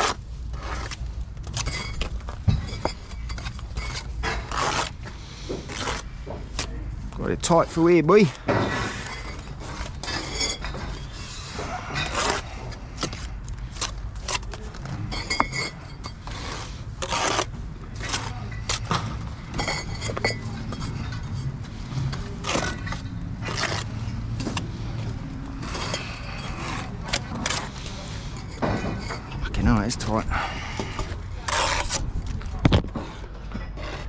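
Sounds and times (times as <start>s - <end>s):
bricks clinking: 0.0s - 6.7s, 8.2s - 34.0s
trowel scraping mortar: 0.0s - 6.7s, 7.7s - 32.4s.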